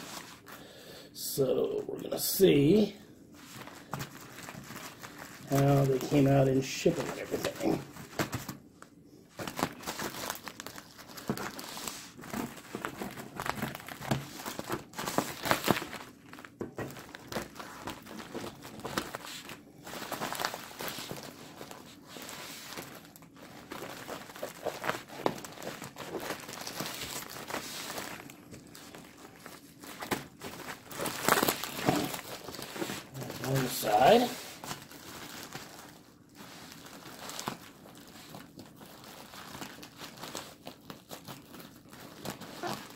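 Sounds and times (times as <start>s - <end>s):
packaging crinkling: 2.1s - 42.9s
packaging tearing: 3.6s - 8.6s, 9.3s - 42.9s.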